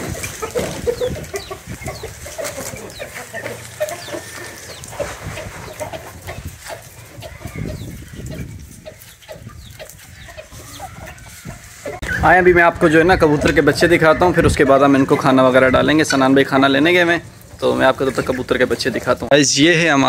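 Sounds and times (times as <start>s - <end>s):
chickens clucking: 0.0s - 19.4s.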